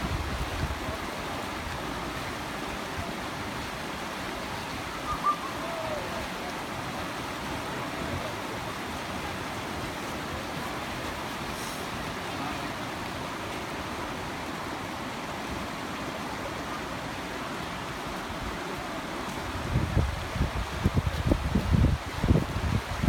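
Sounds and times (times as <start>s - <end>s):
river rapids rushing over rocks: 0.0s - 23.0s.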